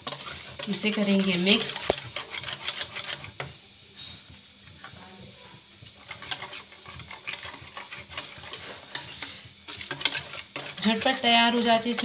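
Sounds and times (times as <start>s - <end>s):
wet scrapes of stirring in bowl: 0.0s - 3.6s, 5.8s - 12.0s.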